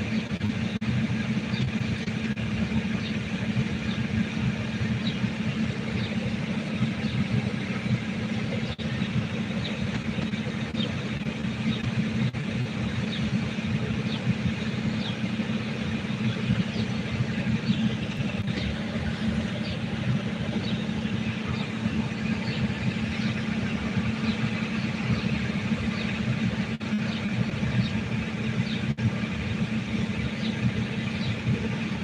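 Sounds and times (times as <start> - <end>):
low mechanical rumble: 0.0 - 32.0.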